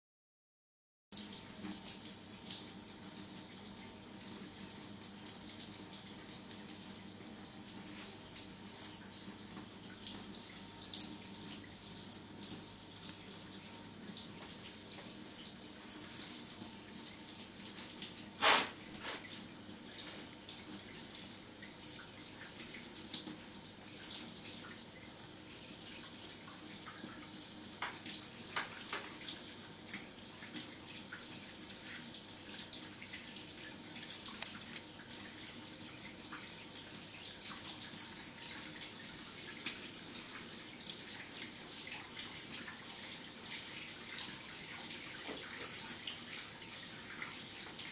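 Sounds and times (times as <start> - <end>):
water running in a bathtub: 1.1 - 47.9
water drips and splashes: 1.2 - 47.9.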